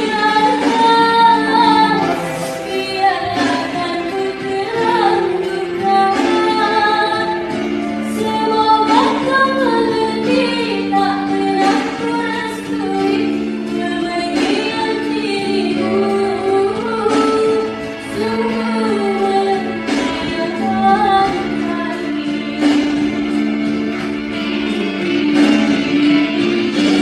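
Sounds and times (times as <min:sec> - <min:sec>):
musical accompaniment: 0:00.0 - 0:27.0
women singing: 0:00.0 - 0:27.0.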